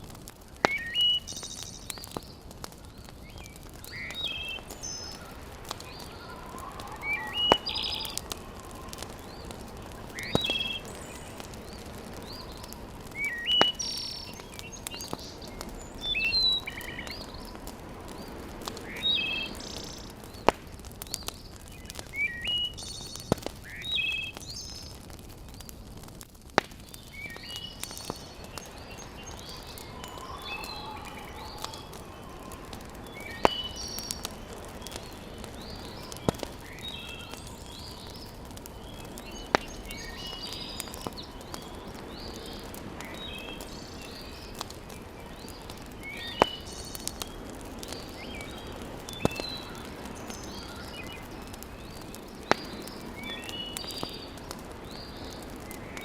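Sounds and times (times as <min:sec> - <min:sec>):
wood fire popping: 0:00.0 - 0:56.0
birds chirping: 0:00.5 - 0:25.9, 0:26.8 - 0:56.0.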